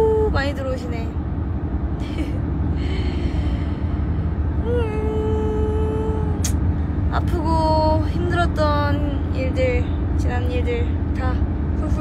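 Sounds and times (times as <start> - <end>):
car rumble from inside: 0.0 - 12.0.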